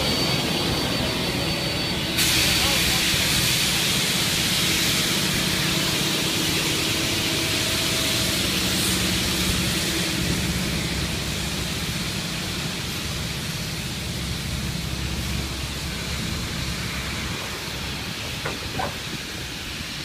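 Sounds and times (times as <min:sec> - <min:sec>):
train carriages rolling past: 0:00.0 - 0:20.0.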